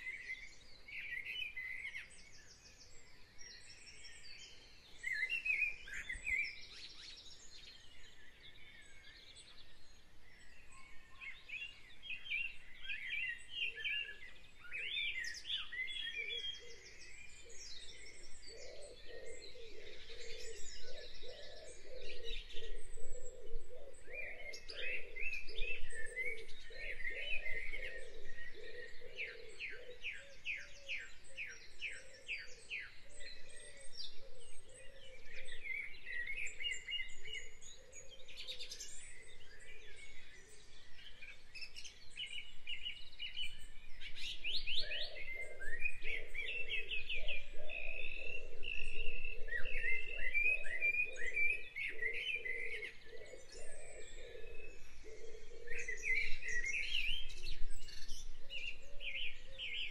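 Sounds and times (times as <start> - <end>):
small birds chirping and trilling: 0.0 - 59.9
low repeated bird call: 10.7 - 59.9.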